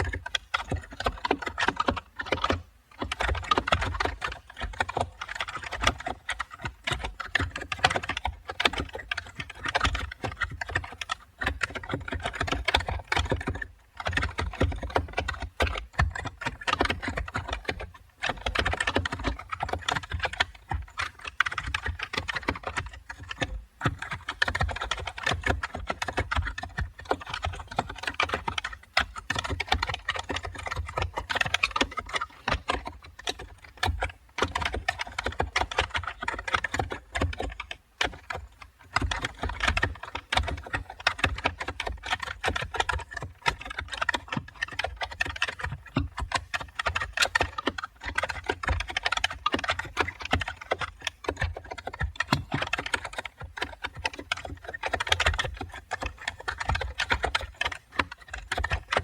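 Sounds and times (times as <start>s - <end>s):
keyboard typing: 0.0s - 59.0s.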